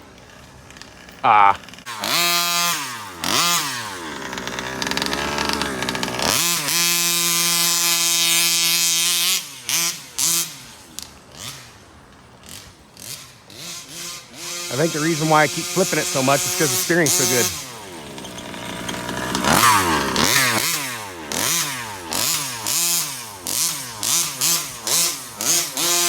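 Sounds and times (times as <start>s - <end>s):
two-stroke engine revving: 0.1s - 26.0s.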